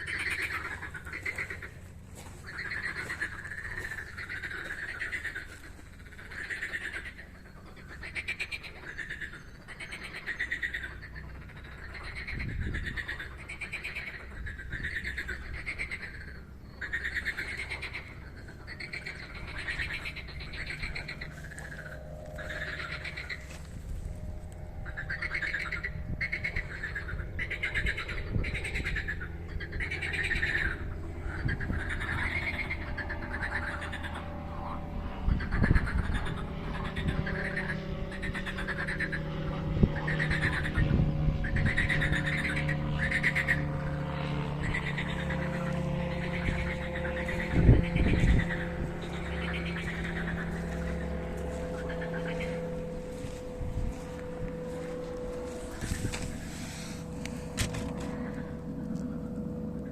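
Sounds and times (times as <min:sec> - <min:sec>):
frogs croaking in chorus: 0:00.0 - 0:59.9
low rumble: 0:10.0 - 0:59.9.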